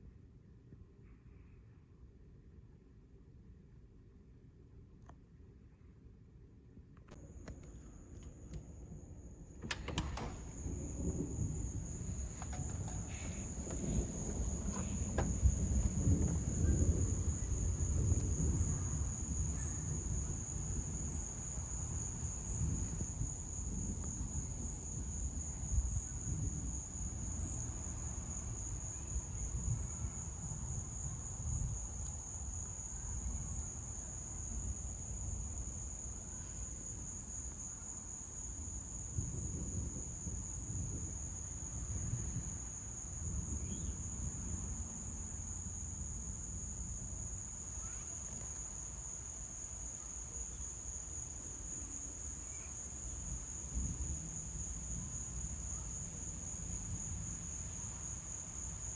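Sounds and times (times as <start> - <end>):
insects trilling: 9.7 - 58.9.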